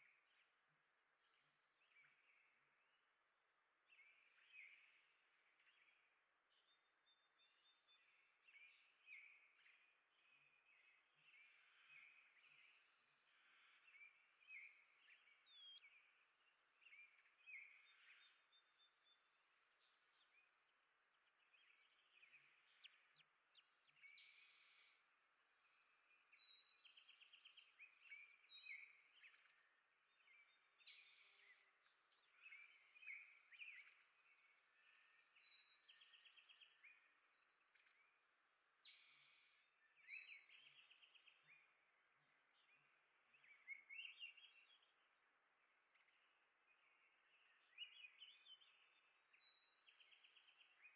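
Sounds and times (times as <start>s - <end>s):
faint songbirds chirping: 0.0s - 50.9s.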